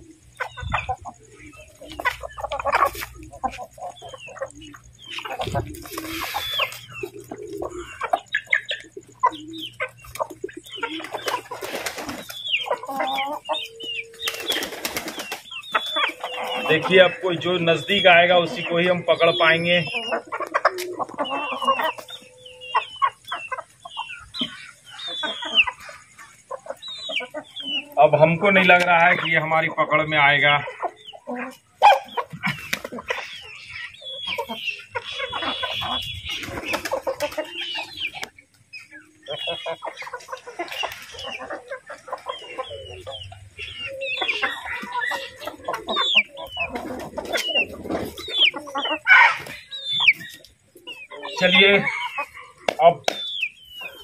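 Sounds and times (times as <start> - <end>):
chickens clucking: 0.0 - 54.0
high falling chicken calls: 0.0 - 54.0.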